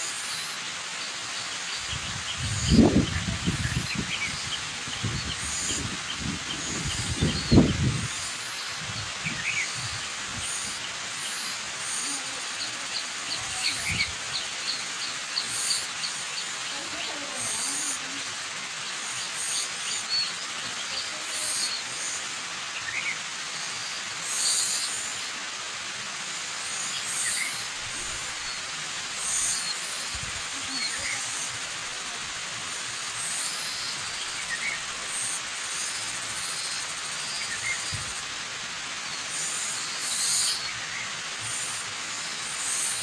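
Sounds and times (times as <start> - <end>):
small birds chirping: 0.0 - 25.4, 26.6 - 43.0
waterfall rushing: 0.0 - 43.0.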